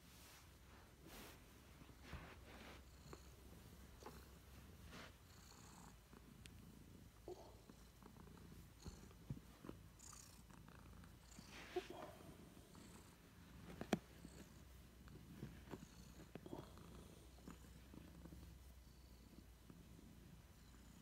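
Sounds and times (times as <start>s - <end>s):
rustling fur: 0.0s - 7.2s, 8.0s - 20.6s
cat purring: 0.2s - 21.0s.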